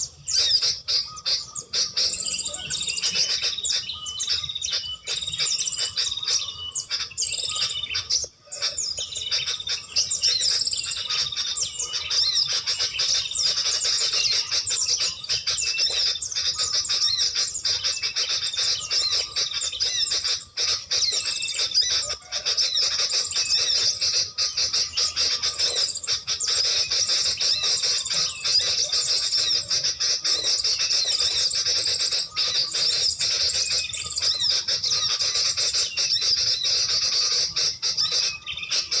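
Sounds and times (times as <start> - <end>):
small songbirds chirping: 0.0 - 39.0.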